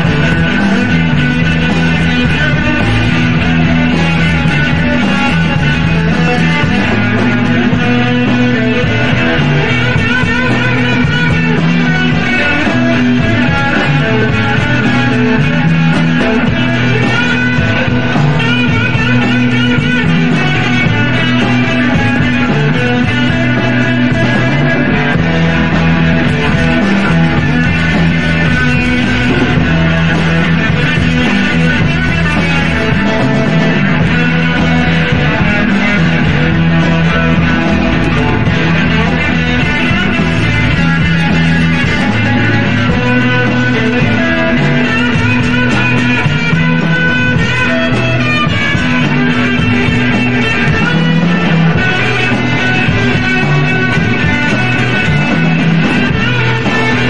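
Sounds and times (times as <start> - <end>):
guitar-led rock music: 0.0 - 57.0.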